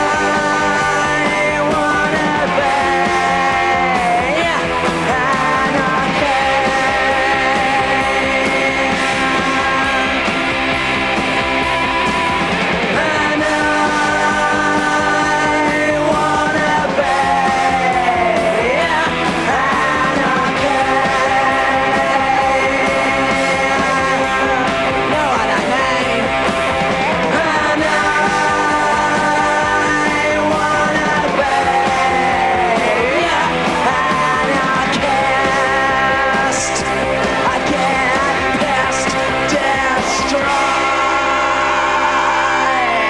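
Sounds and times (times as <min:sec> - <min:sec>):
rock song with singing: 0:00.0 - 0:43.0.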